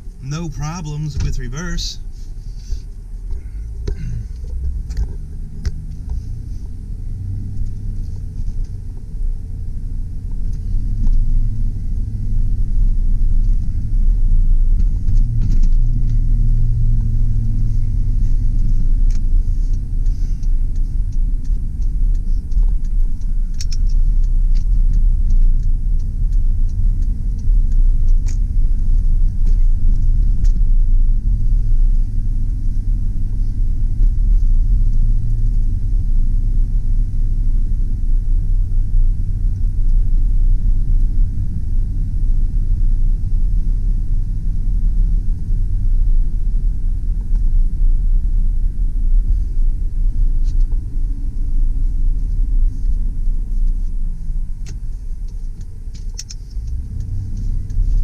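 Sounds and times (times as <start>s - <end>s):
engine and road rumble: 0.0s - 58.0s.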